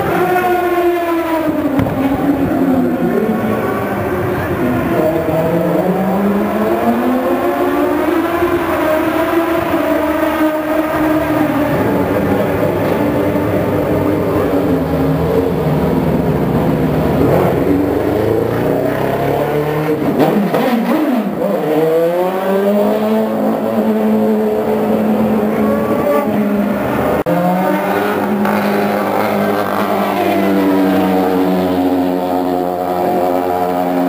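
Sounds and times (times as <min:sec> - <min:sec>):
racing car engines high revs: 0:00.0 - 0:34.0.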